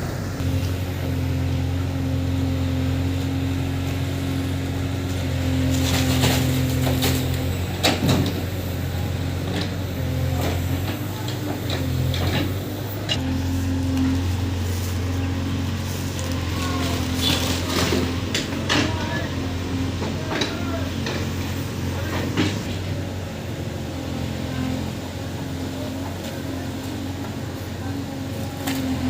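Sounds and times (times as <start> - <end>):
heavy machinery diesel engine running: 0.0 - 29.0.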